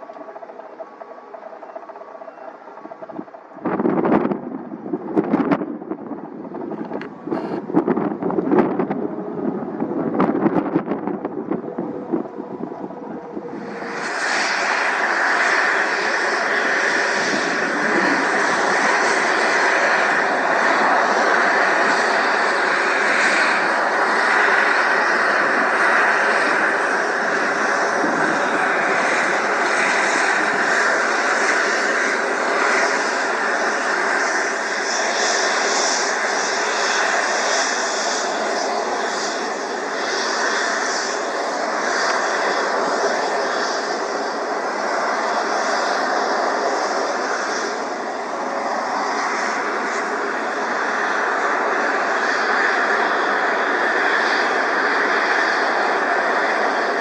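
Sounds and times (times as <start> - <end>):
aircraft engine running: 0.0 - 57.0.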